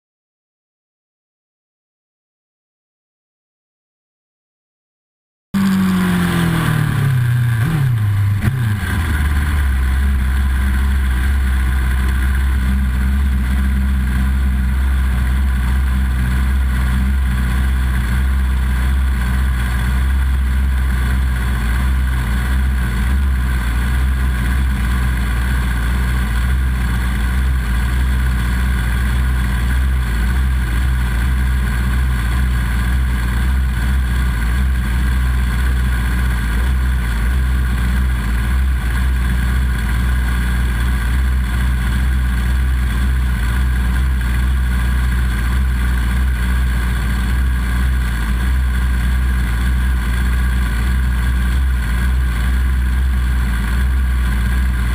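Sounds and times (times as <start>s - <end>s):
motorcycle engine idling: 5.6s - 54.9s.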